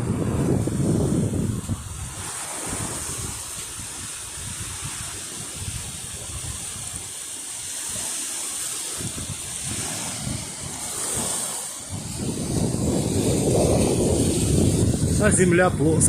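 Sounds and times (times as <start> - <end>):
wind buffeting microphone: 0.0 - 8.1, 8.9 - 16.0
surf washing on shore: 0.0 - 16.0.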